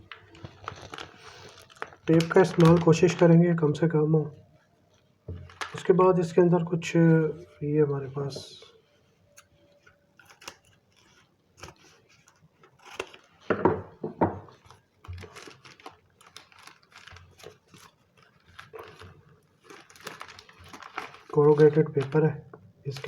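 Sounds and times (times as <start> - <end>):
packing materials crinkling: 0.0 - 6.7, 9.3 - 13.6, 14.4 - 23.0.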